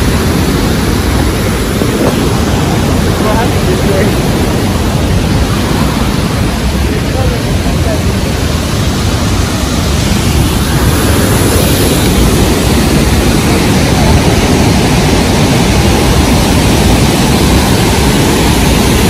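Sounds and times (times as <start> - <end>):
waterfall roaring: 0.0 - 19.0
wind buffeting microphone: 0.0 - 19.0.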